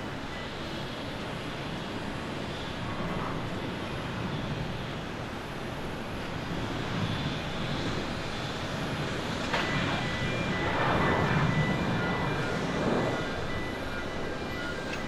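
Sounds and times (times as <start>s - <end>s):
jet engines at takeoff: 0.0s - 15.0s.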